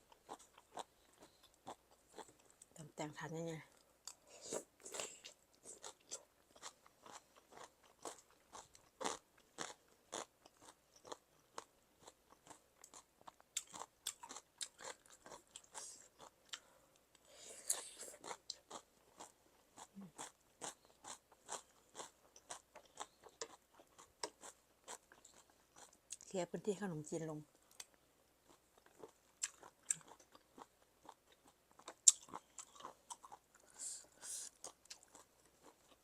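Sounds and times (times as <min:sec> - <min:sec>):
crunching and chewing food: 0:00.0 - 0:26.3, 0:27.4 - 0:36.0.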